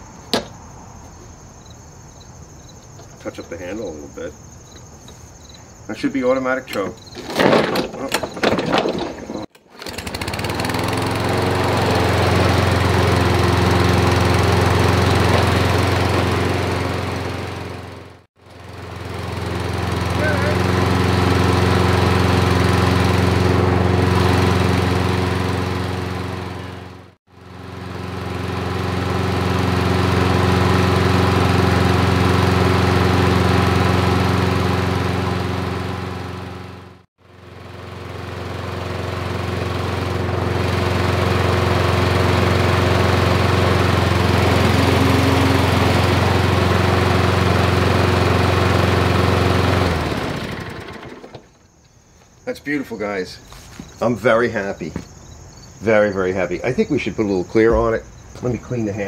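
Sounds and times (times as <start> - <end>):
lawnmower engine running: 5.9 - 55.0.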